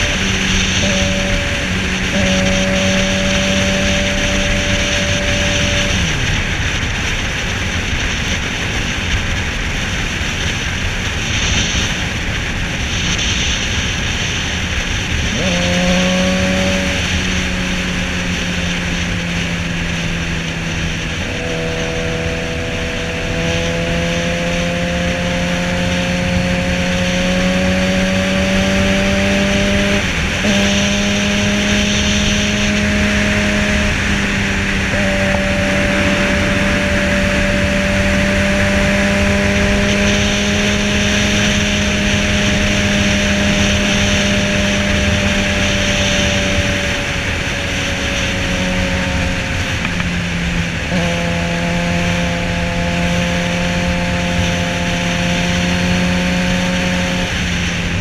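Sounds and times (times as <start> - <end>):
motorcycle engine at speed: 0.0 - 58.0
wind rush on microphone: 0.0 - 58.0.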